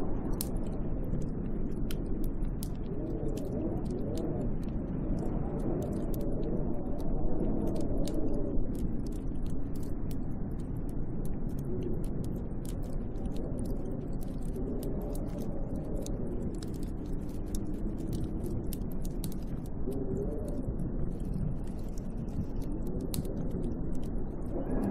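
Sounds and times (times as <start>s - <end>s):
tiny ticks: 0.0s - 24.9s
wind howling: 0.0s - 24.9s.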